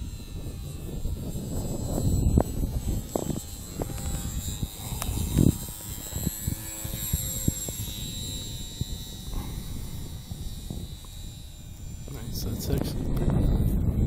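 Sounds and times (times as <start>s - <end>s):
model airplane motor whine: 0.0s - 14.0s
wind rumble on microphone: 0.0s - 14.0s.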